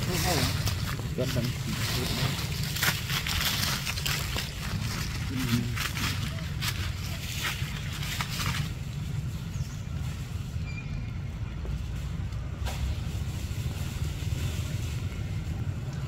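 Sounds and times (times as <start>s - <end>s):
dry leaves rustling: 0.0s - 16.0s
low rumble: 0.0s - 16.0s.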